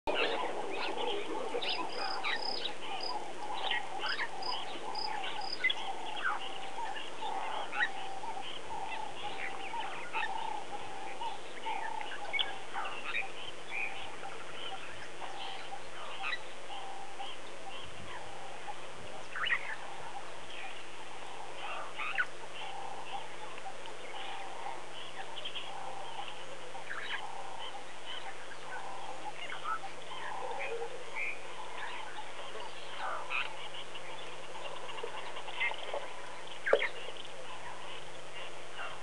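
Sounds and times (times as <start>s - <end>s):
repeated low bird notes: 0.1s - 39.0s.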